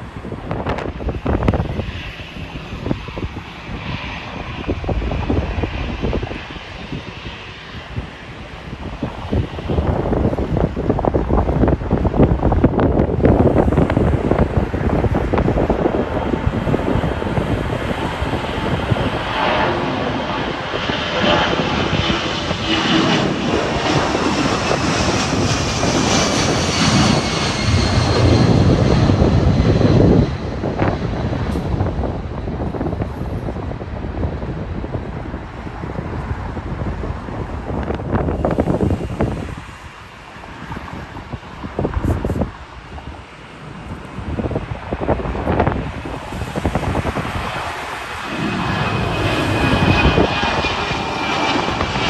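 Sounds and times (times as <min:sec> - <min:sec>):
distant airliner engine noise: 0:00.0 - 0:52.0
wind buffeting microphone: 0:00.0 - 0:52.0.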